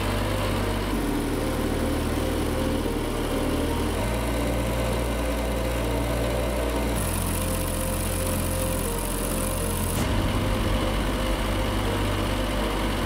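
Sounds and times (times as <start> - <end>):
electric motors and treadmill humming: 0.0 - 13.0.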